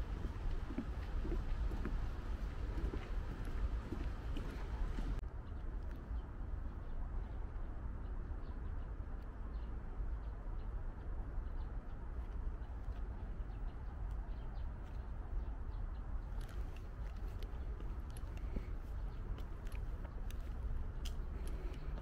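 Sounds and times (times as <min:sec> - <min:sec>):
birds chirping faintly: 0:00.0 - 0:22.0
steady low rumble: 0:00.0 - 0:22.0.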